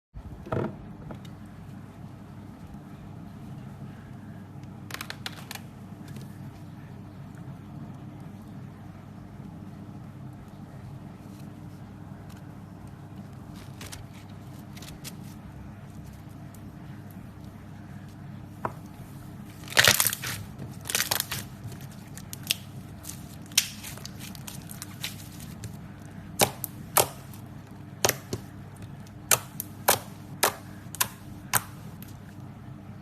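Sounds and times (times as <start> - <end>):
low steady hum: 0.2 - 33.0.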